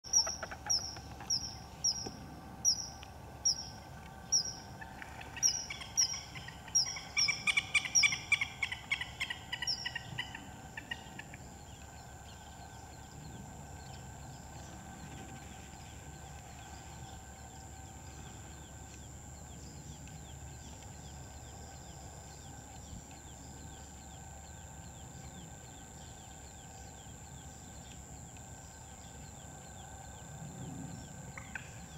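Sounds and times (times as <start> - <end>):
background hiss: 0.1 - 31.9.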